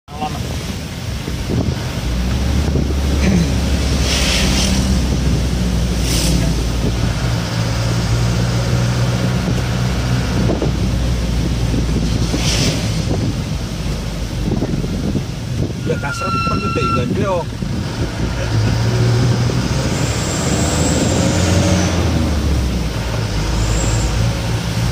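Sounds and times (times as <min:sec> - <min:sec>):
bus engine running: 0:00.1 - 0:24.9
passing vehicles whooshing: 0:00.1 - 0:24.9
tyre noise on wet road: 0:00.1 - 0:24.9.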